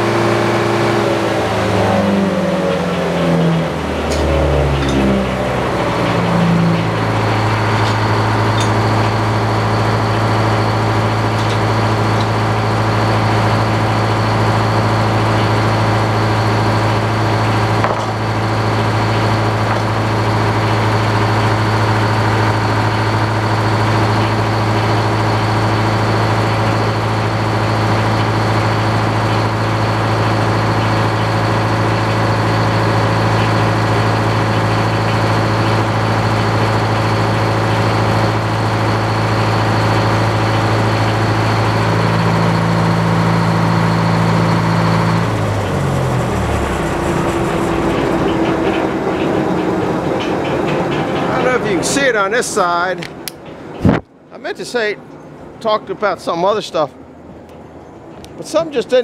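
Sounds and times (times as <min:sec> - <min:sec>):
circular saw machine drone: 0:00.0 - 0:59.0.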